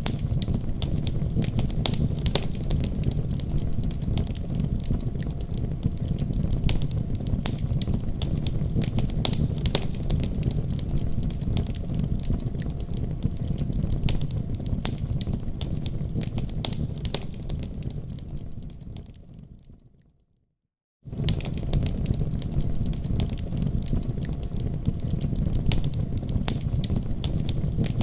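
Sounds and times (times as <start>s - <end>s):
low rumble of flames: 0.0s - 20.0s, 21.0s - 28.0s
wood fire crackling and popping: 0.0s - 20.0s, 21.1s - 28.0s.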